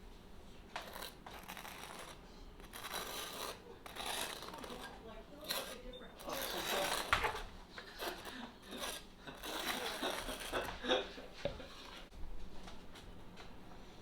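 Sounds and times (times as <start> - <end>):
utensils scraping and rubbing: 0.7 - 12.1.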